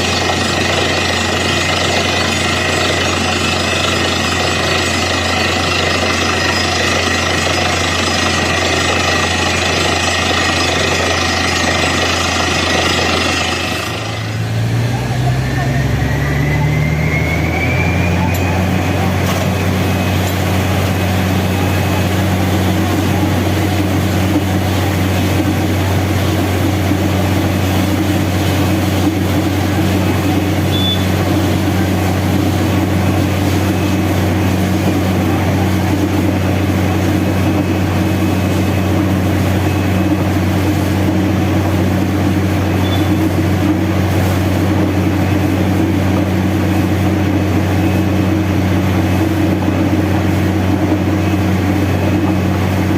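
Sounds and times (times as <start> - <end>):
drilling rig deep hum: 0.0 - 52.9.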